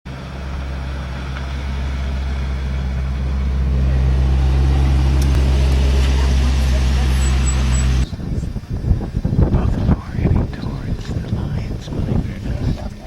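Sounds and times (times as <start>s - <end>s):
vehicle engine running: 0.1s - 13.0s.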